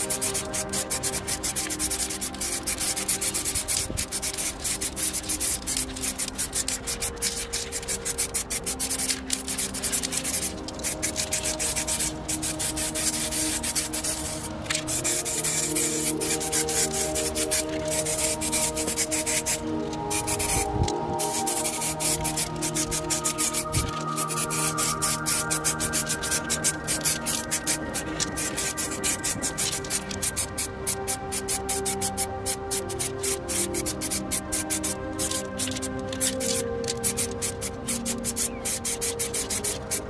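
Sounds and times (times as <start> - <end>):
soft ambient background music: 0.0 - 40.0
spray paint cans hissing: 0.0 - 40.0.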